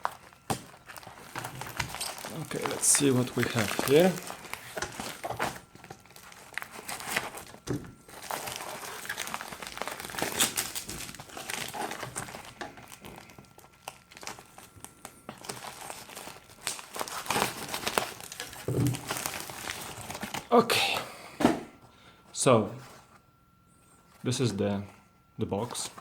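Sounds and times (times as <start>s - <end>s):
packaging crinkling and rustling: 0.0s - 20.5s, 25.6s - 26.0s.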